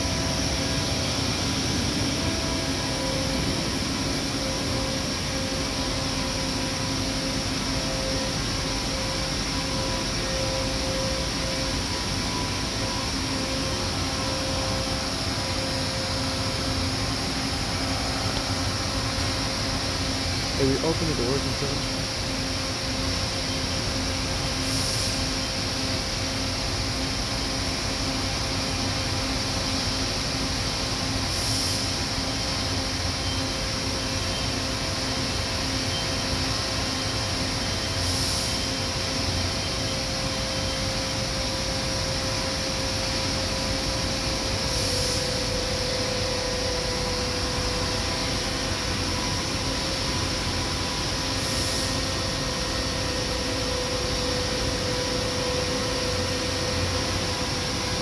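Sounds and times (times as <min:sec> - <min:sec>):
boring mill humming: 0:00.0 - 0:58.0.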